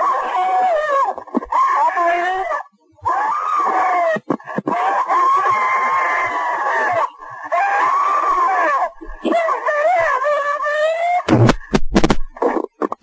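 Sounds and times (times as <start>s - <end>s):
person screaming: 0.0s - 11.3s.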